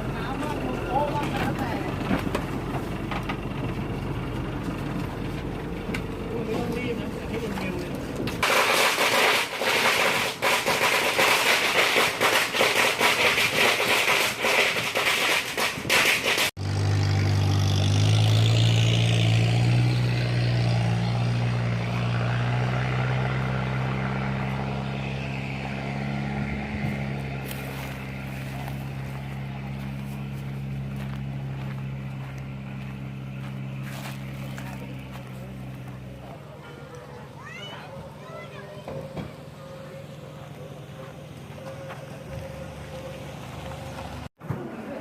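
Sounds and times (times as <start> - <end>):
low engine hum: 0.0 - 8.4, 16.5 - 45.0.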